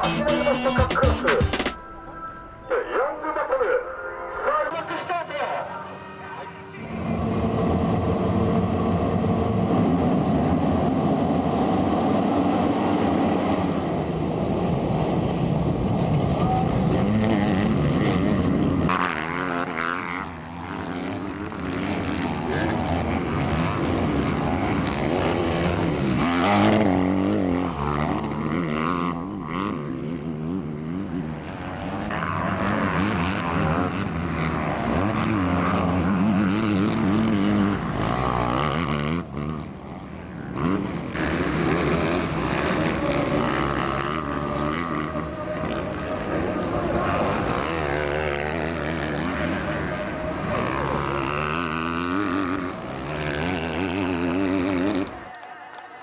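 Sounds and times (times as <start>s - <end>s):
motocross bikes revving: 0.0s - 1.7s, 4.4s - 56.0s.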